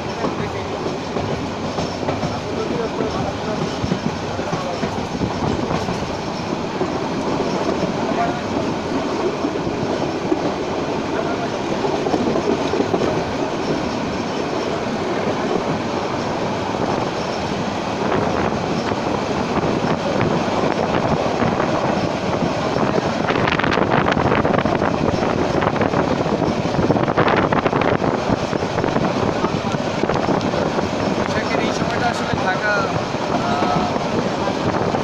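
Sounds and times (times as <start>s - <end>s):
train clattering: 0.0s - 35.0s
train wheels rumbling on rail: 0.0s - 35.0s.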